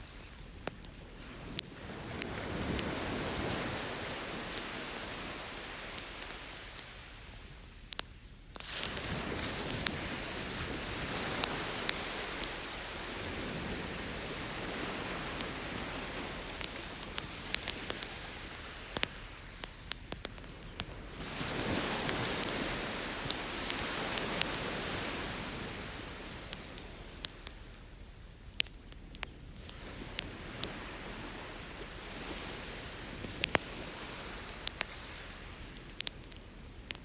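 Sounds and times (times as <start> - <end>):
campfire crackling: 0.0 - 37.0
ocean surf: 1.2 - 7.4, 8.6 - 19.7, 20.9 - 27.4, 29.6 - 35.8.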